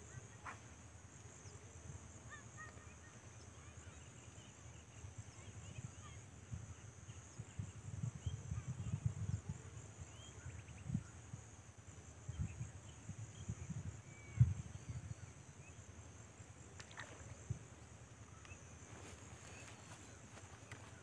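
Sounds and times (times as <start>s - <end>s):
insects chirring: 0.0s - 21.0s
faint bird chirps: 1.3s - 11.4s, 12.2s - 16.1s, 16.8s - 21.0s.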